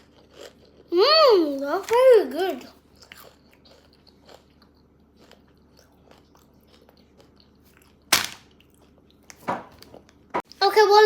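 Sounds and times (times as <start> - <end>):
mouth chewing crunchy chips: 0.0 - 10.3.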